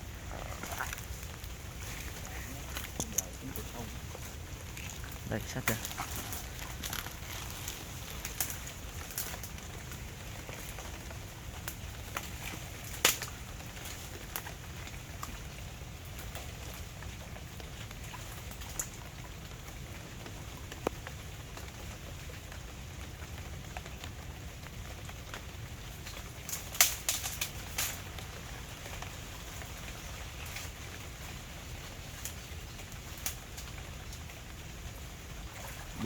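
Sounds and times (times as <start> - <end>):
light rain patter: 0.0 - 36.0.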